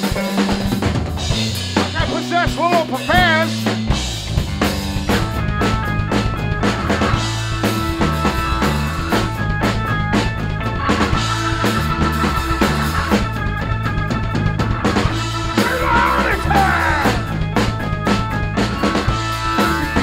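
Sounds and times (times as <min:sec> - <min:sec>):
drum kit: 0:00.0 - 0:20.0
electric bass: 0:00.0 - 0:20.0
electric keyboard: 0:00.0 - 0:20.0.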